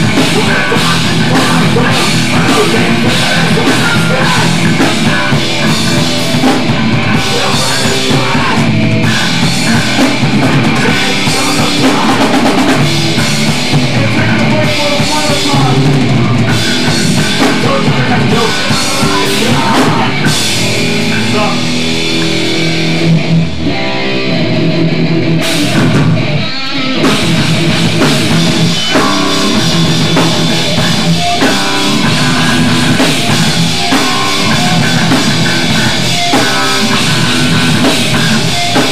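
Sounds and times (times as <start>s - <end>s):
distorted guitars: 0.0s - 38.9s
loud punk band playing: 0.0s - 38.9s
pounding drum kit: 0.0s - 38.9s.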